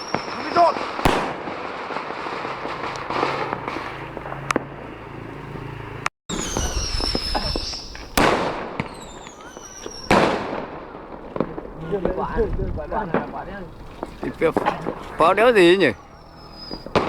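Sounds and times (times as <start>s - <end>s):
falling fireworks whistles: 0.0s - 5.0s, 6.3s - 17.0s
fireworks bangs: 0.0s - 17.0s
fireworks crackling: 0.0s - 17.0s.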